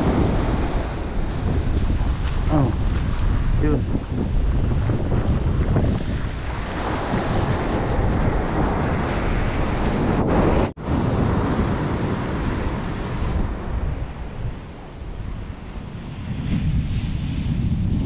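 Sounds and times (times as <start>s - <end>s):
ocean surf washing over sand: 0.0s - 18.0s
wind buffeting microphone: 0.0s - 18.0s.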